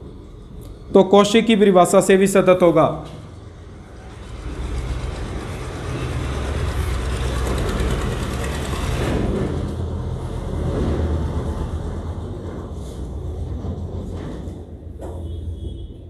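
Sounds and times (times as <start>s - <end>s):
passing vehicle rumbling: 0.0s - 16.0s.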